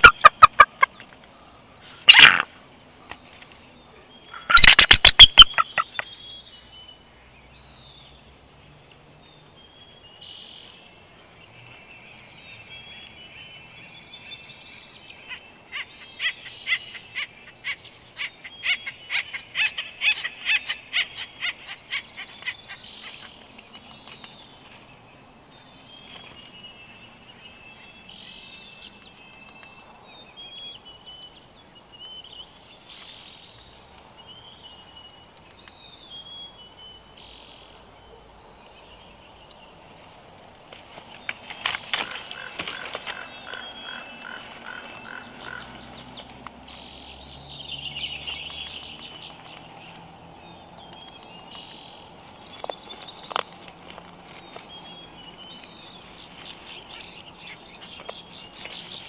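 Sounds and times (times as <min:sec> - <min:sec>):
small birds calling: 0:00.0 - 0:59.0.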